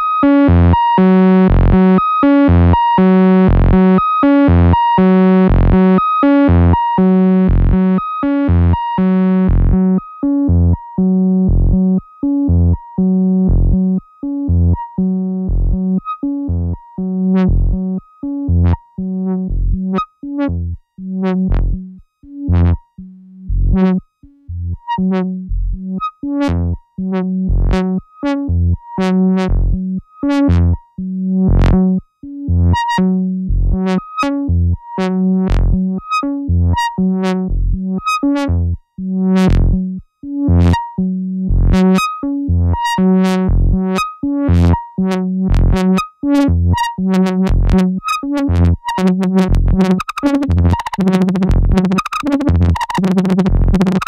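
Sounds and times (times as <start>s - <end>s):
synthesizer sequenced notes: 0.0s - 54.0s.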